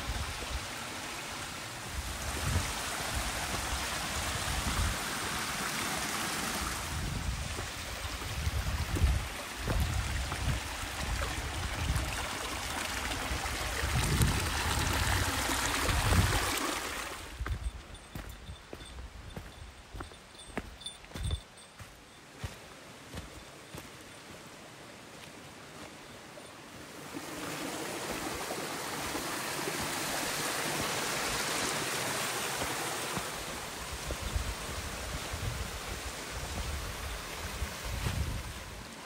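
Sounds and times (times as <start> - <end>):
stream rushing: 0.0 - 39.0.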